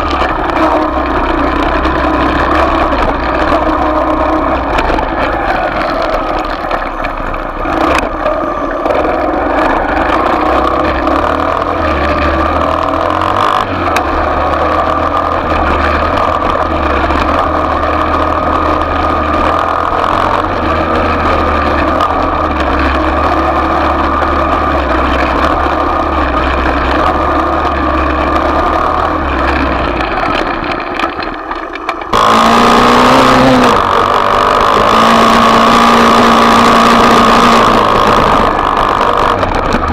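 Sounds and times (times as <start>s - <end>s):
close steady engine note: 0.0s - 39.9s
off-road motorcycle engine running: 0.0s - 39.9s.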